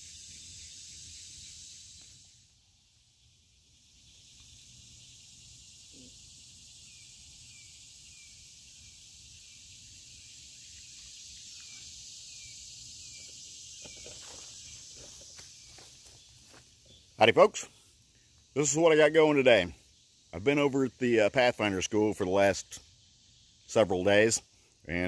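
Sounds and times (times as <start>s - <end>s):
insect chorus droning: 0.0s - 25.0s.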